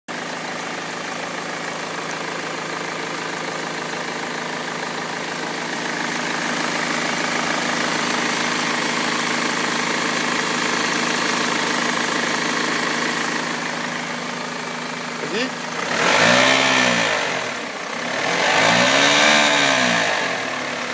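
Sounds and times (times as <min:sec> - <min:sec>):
diesel engine running rough: 0:00.1 - 0:20.9.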